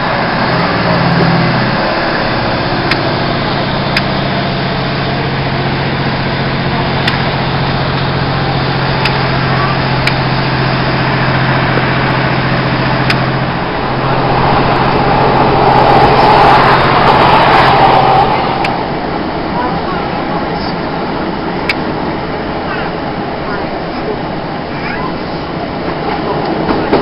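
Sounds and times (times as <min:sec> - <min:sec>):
train diesel engine: 0:00.0 - 0:27.0
train running noise: 0:00.0 - 0:27.0.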